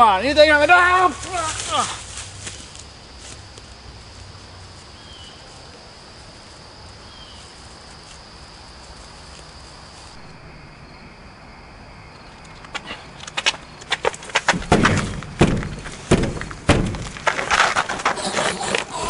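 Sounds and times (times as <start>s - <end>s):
crickets trilling: 0.0s - 19.0s
quiet steady ambience: 0.0s - 19.0s.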